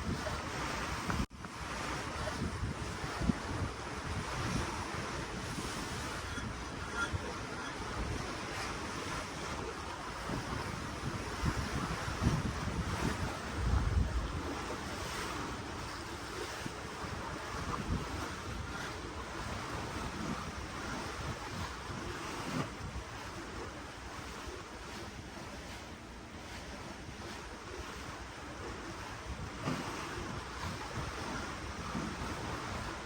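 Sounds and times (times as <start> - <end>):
ocean water rushing: 0.0 - 33.0
wind buffeting microphone: 0.0 - 33.0.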